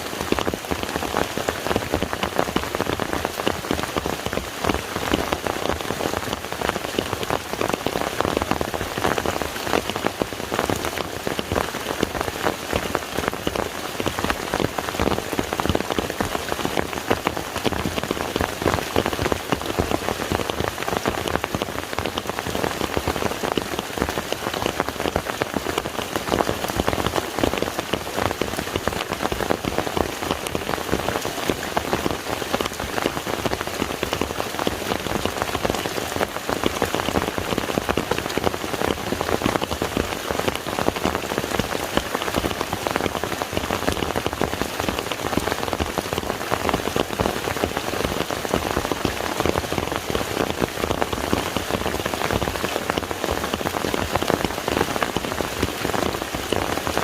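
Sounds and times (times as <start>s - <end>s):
rain falling on a lake: 0.0s - 57.0s.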